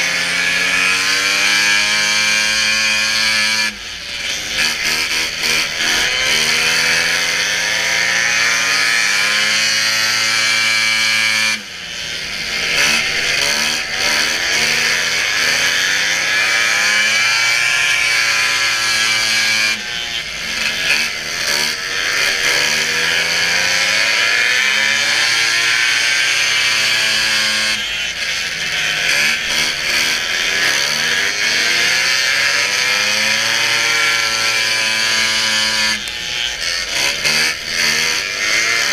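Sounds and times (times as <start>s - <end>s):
snowmobile engine at high revs: 0.0s - 38.9s.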